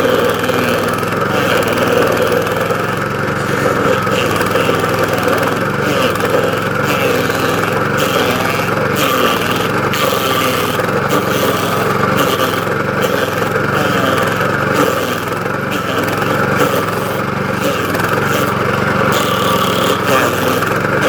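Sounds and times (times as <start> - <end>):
cutter wheel chewing stump: 0.0 - 21.0
stump grinder engine: 0.0 - 21.0.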